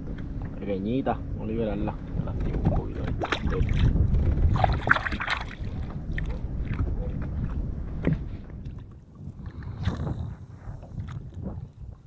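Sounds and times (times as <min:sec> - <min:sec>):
wind rumbling on microphone: 0:00.0 - 0:12.0
water lapping at kayak: 0:01.9 - 0:12.0.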